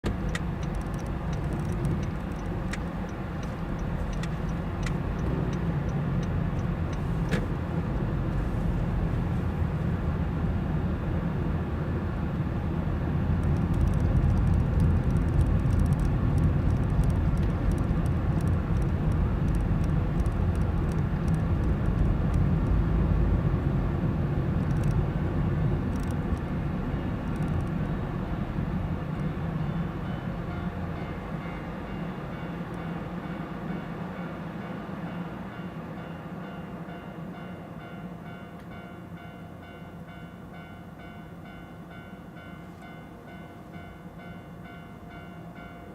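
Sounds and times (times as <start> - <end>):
car engine and tyres rumble: 0.0 - 39.2.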